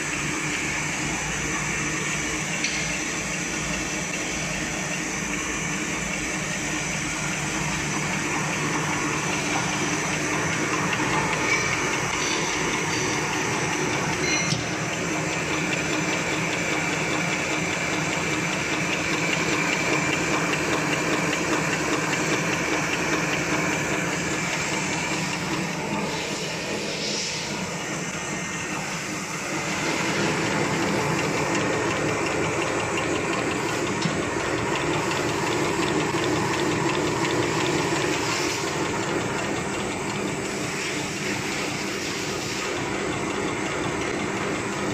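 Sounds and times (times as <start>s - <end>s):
paper folding machine whirring: 5.6s - 44.9s.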